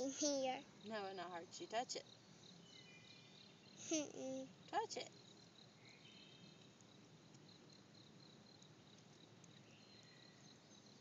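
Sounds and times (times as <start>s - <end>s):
high pulsing insect chirp: 0.0s - 11.0s.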